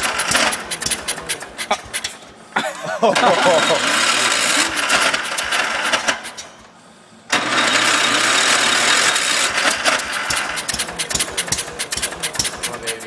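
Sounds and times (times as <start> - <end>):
engine firing in irregular pops: 0.0 - 2.6, 3.6 - 13.0
starter cranking engine: 0.0 - 13.0.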